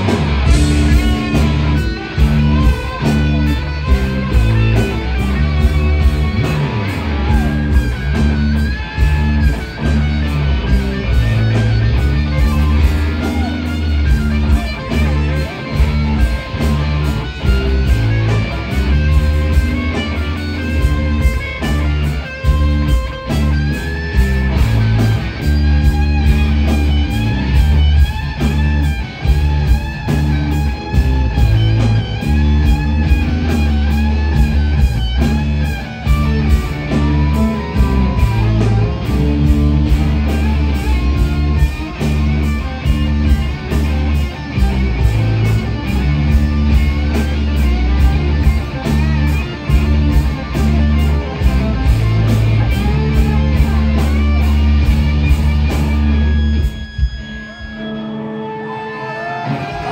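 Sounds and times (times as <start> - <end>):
loud rock music: 0.0 - 59.9.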